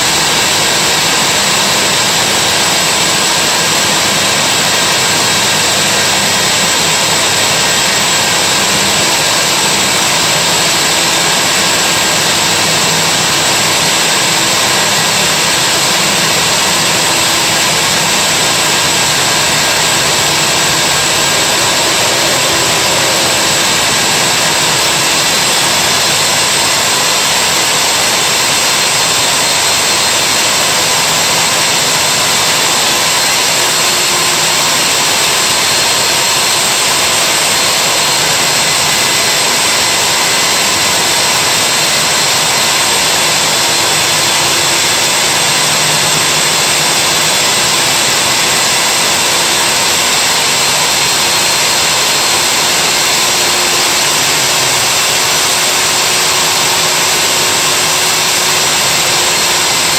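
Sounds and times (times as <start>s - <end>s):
core drill cutting concrete: 0.0s - 59.9s
faint steady whine: 0.0s - 59.9s.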